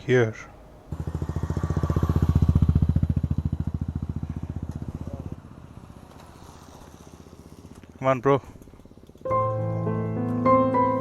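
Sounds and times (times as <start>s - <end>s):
motorcycle engine running: 0.9s - 11.0s.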